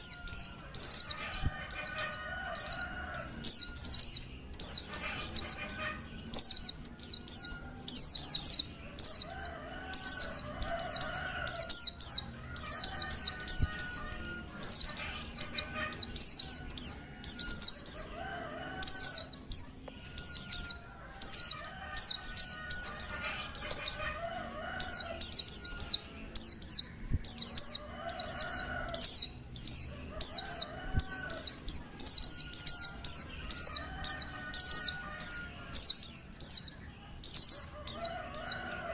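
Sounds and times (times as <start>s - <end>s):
faint lower bird calls: 0.0s - 38.9s
high downward-sweeping bird chirps: 0.0s - 38.9s.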